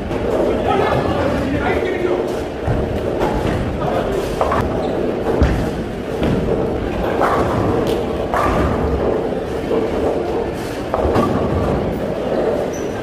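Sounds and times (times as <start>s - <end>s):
background hum of hall: 0.0s - 13.0s
bowling balls thudding and rolling: 0.0s - 13.0s.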